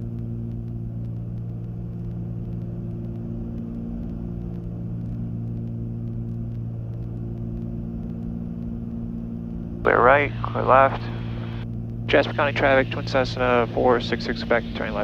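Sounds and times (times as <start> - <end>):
twin propeller aircraft drone: 0.0 - 15.0.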